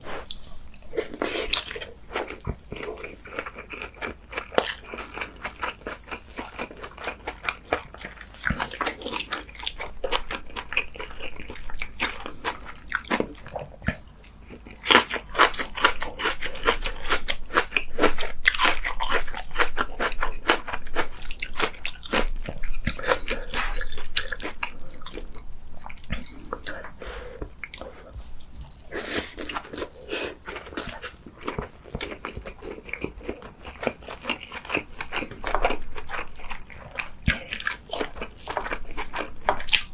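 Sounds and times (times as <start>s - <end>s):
person eating and crunching: 0.0s - 39.9s.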